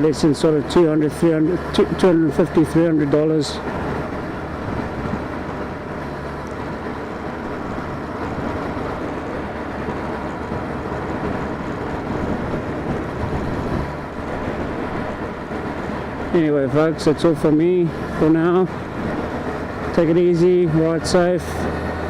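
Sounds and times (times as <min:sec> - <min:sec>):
low engine hum: 0:00.0 - 0:22.0
wind and road noise: 0:00.0 - 0:22.0.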